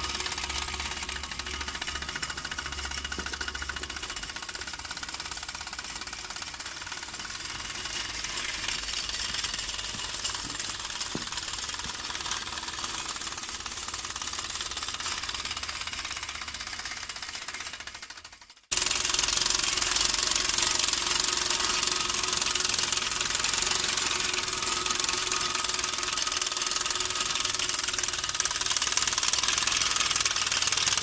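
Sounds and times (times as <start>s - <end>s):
toy steam engine running fast: 0.0s - 31.0s.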